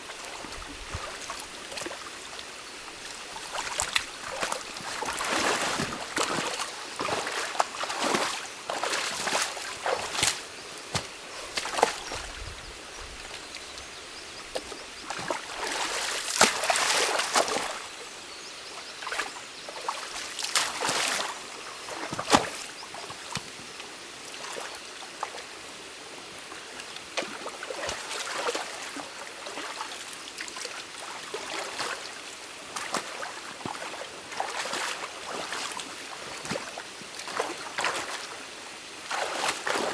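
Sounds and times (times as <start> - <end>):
water splashing and sloshing: 0.0 - 18.2, 19.0 - 23.7, 24.3 - 39.9
stream water trickling: 0.0 - 39.9.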